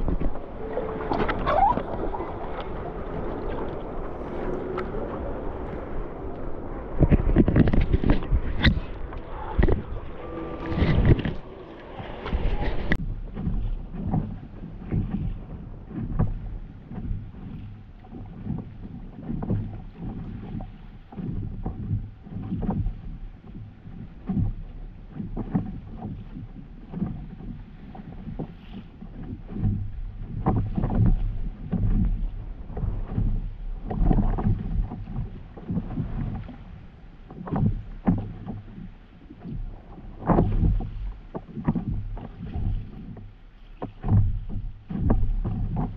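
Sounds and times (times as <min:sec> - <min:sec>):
low rumble: 0:00.0 - 0:45.9
paddle strokes splashing in water: 0:00.0 - 0:45.9.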